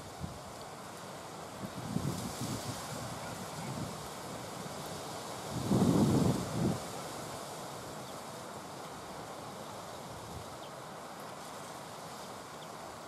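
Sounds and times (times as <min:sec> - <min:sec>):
light wind hiss: 0:00.0 - 0:13.0.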